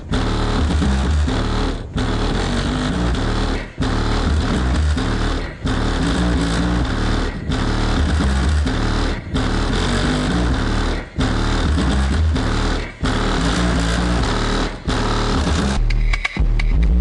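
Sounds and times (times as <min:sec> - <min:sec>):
bass-heavy music from car stereo: 0:00.0 - 0:17.0.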